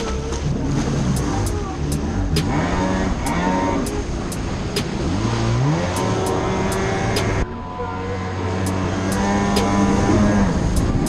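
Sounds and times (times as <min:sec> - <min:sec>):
jet ski engine revving: 0:00.0 - 0:11.0
water rushing along hull: 0:00.0 - 0:11.0.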